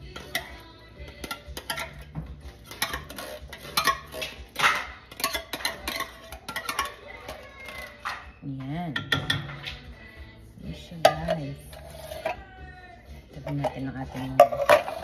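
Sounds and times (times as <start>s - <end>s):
spoon scraping against a pot: 0.0s - 10.1s, 10.7s - 15.0s.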